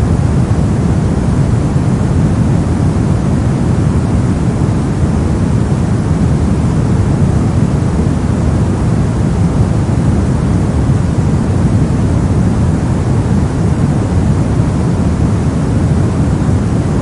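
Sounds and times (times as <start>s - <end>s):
brown noise rumble: 0.0s - 17.0s.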